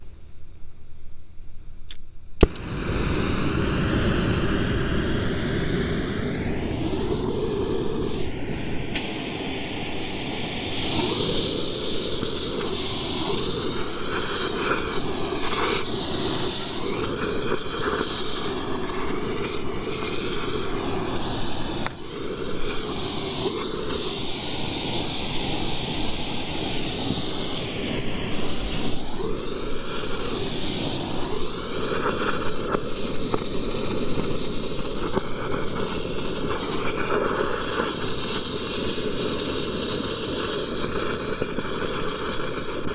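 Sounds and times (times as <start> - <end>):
torch flame hissing: 0.0 - 42.9.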